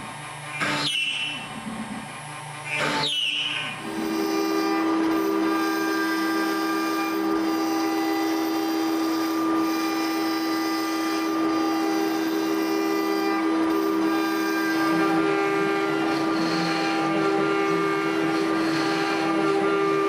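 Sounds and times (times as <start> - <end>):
cnc router spindle whine: 0.0 - 20.0.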